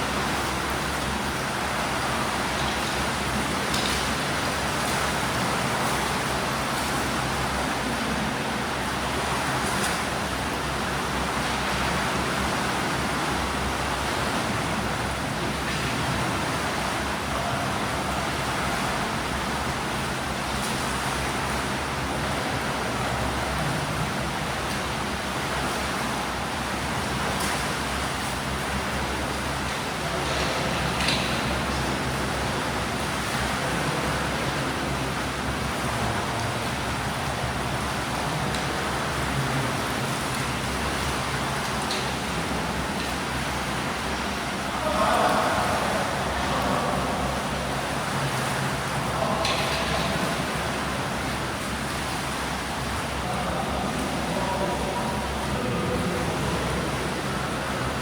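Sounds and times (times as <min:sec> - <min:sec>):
pool water churning: 0:00.0 - 0:58.0.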